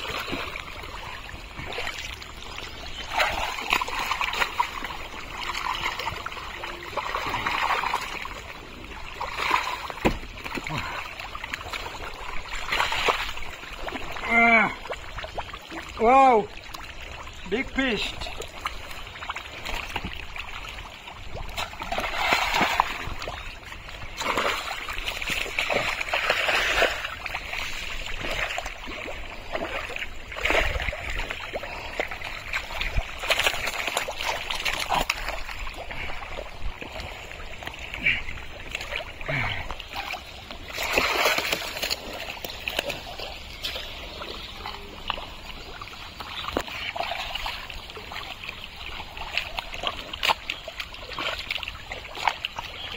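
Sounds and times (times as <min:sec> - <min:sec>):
mud and water sloshing: 0:00.0 - 0:52.9.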